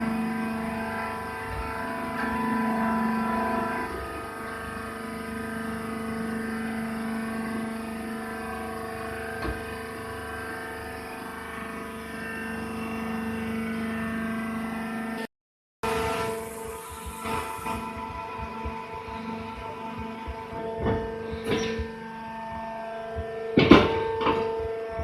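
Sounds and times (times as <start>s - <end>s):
baling machine humming drone: 0.0s - 15.2s, 15.8s - 25.0s.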